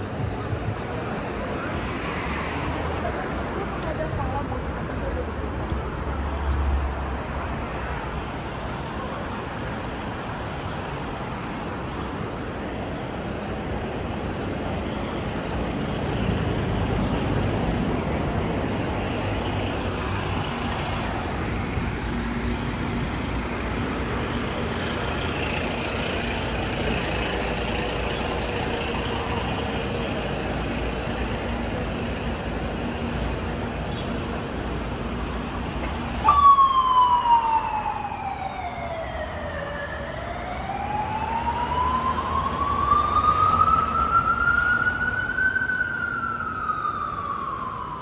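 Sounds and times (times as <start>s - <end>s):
city street traffic: 0.0s - 48.0s.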